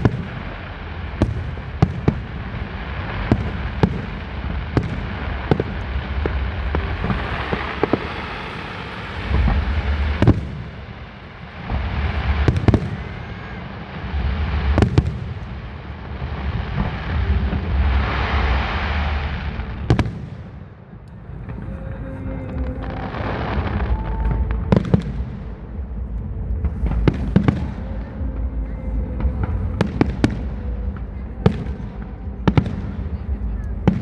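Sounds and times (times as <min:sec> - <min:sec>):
dense firework crackling: 0:00.0 - 0:34.0
low rumbling echo: 0:00.0 - 0:34.0.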